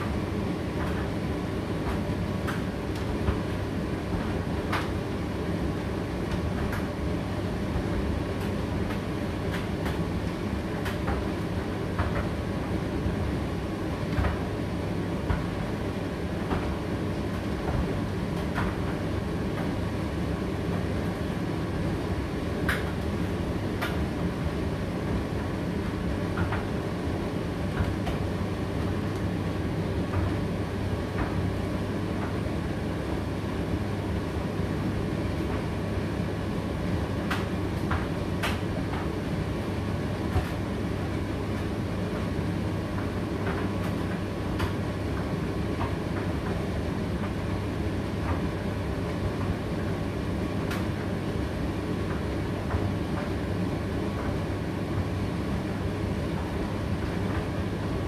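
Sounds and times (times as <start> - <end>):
tumble dryer rumbling: 0.0 - 58.0.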